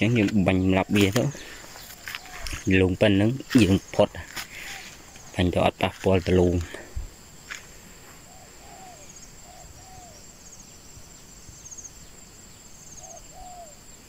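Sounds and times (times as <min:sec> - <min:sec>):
faint bird calls: 0:00.0 - 0:14.0
high-pitched insect drone: 0:00.0 - 0:14.0.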